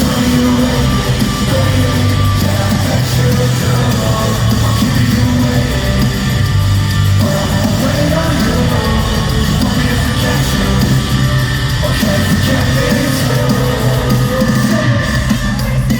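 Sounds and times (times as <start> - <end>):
loud live pop-punk music: 0.0 - 15.9
person singing and yelling: 0.0 - 15.9.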